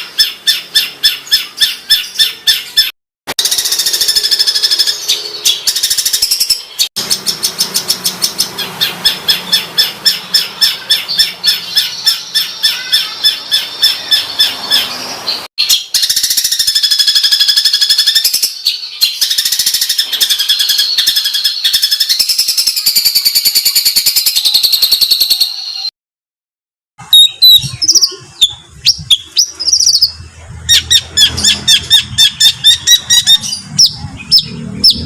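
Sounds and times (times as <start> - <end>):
songbirds giving harsh rapid calls: 0.0 - 25.6, 27.0 - 35.0.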